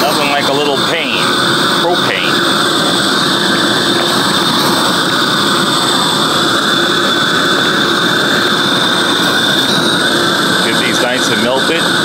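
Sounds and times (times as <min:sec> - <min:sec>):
gas flame hissing: 0:00.0 - 0:12.0
steady high whistle: 0:00.1 - 0:12.0.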